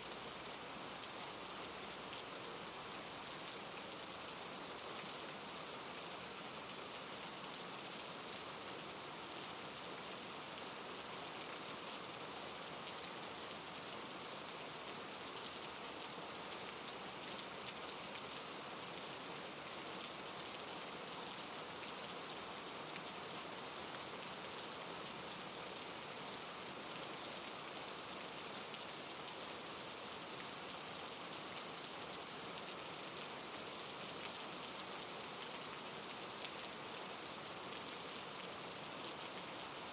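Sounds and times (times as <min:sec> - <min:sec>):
soft rain pattering: 0:00.0 - 0:39.9.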